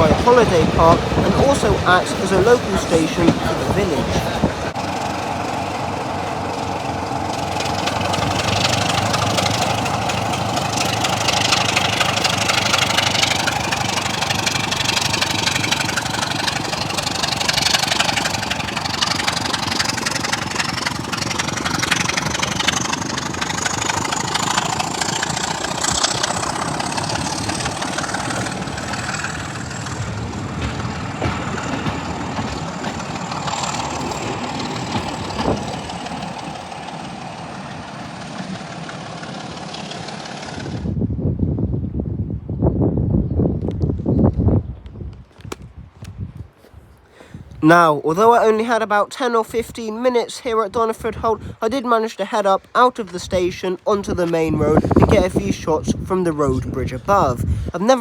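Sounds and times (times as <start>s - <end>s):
diesel train engine running: 0.0s - 42.9s, 47.0s - 58.0s.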